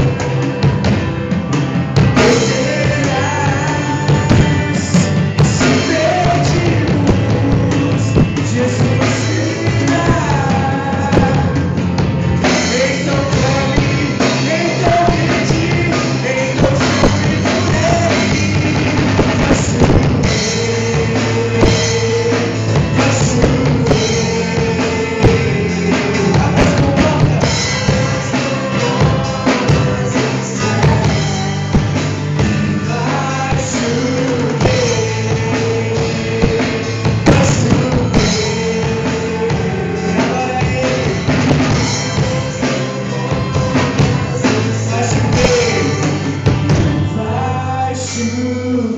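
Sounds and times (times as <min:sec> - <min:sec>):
drum kit: 0:00.0 - 0:48.9
person singing long melody: 0:02.2 - 0:11.8, 0:12.4 - 0:48.9.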